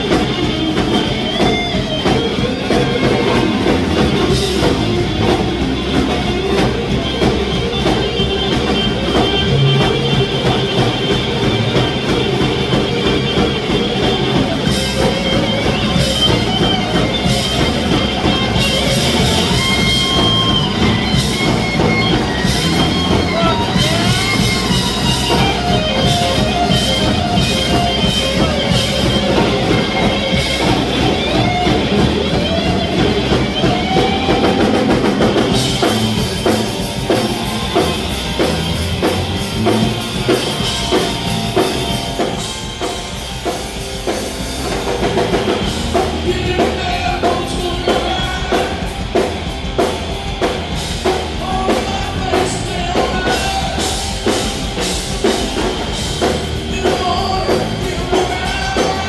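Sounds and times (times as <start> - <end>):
bass guitar: 0.0 - 59.0
drum kit: 0.0 - 59.0
lead guitar with bending notes: 0.0 - 59.0.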